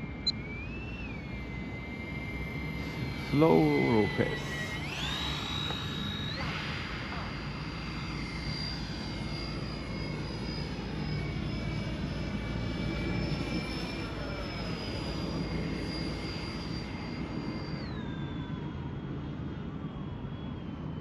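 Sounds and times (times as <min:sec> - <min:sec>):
model jet fans whining: 0:00.0 - 0:21.0.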